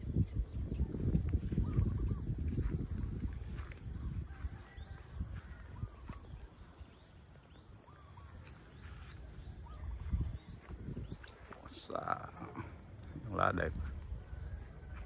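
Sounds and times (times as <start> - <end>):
wind buffeting microphone: 0.0 - 7.2, 8.7 - 15.0
high insect drone: 0.0 - 15.0.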